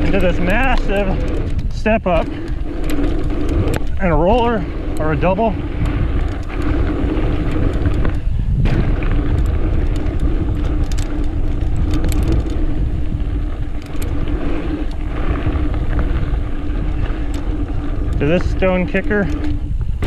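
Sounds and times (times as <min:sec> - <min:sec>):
bike chain and frame rattling: 0:00.0 - 0:20.0
knobby tyres rumbling on dirt: 0:00.0 - 0:20.0
wind buffeting microphone: 0:00.0 - 0:20.0.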